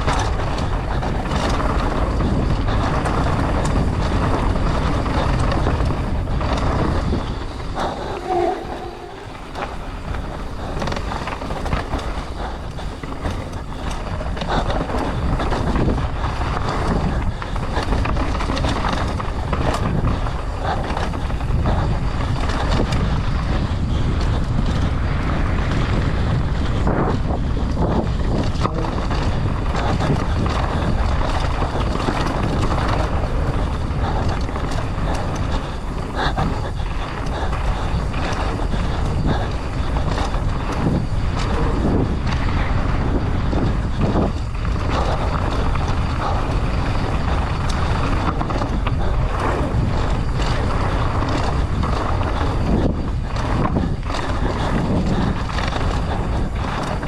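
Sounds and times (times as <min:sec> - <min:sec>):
bike clattering: 0:00.0 - 0:24.9, 0:25.6 - 0:57.0
tyres rumbling on dirt and rock: 0:00.0 - 0:57.0
wind rushing over microphone: 0:00.0 - 0:57.0.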